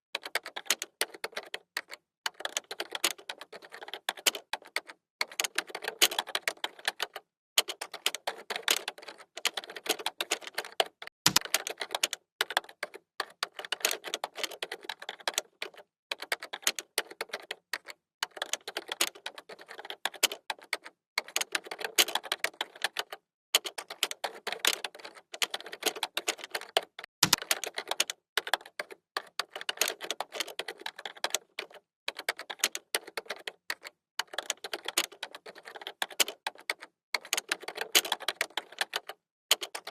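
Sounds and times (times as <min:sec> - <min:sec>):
typing on a computer keyboard: 0:00.1 - 0:39.9.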